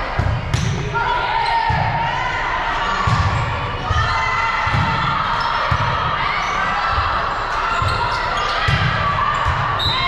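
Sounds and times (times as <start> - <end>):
hubbub of voices: 0.0 - 10.0.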